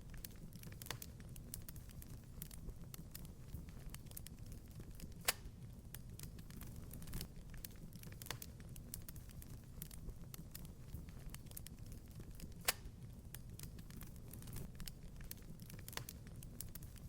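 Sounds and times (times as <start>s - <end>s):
fire popping: 0.0s - 17.0s
wood fire crackling: 0.0s - 17.0s.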